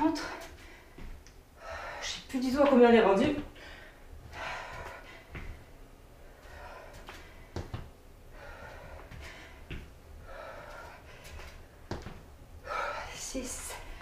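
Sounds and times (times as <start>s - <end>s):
woman breathing hard: 0.2s - 2.3s, 3.5s - 14.0s.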